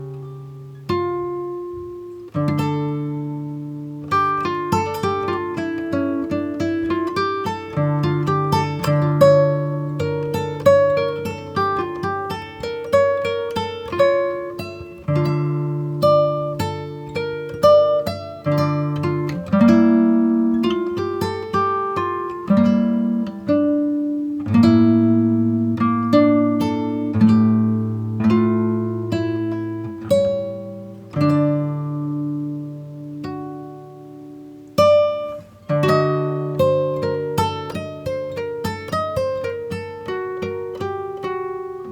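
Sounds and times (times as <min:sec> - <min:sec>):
plucked acoustic guitar: 0:00.0 - 0:41.9.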